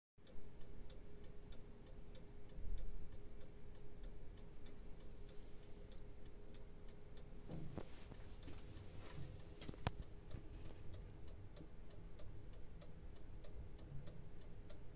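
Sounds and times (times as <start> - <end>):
mechanical clock ticking: 0.2 - 14.9.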